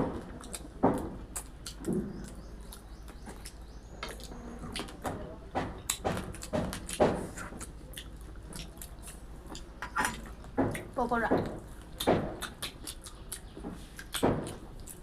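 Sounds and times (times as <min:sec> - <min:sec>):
people chewing crisp fried food: 0:00.0 - 0:15.0.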